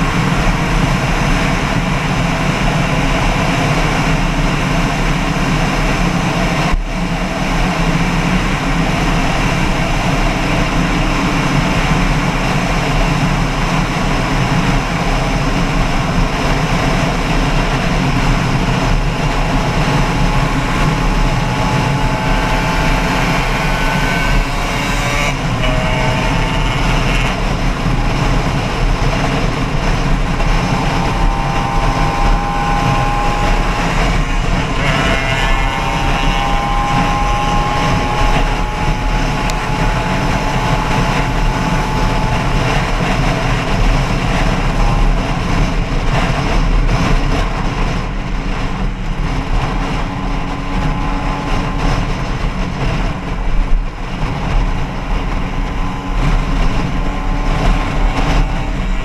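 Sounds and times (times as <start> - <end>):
loud rushing noise: 0.0 - 59.0
vehicle engine running: 0.0 - 59.0.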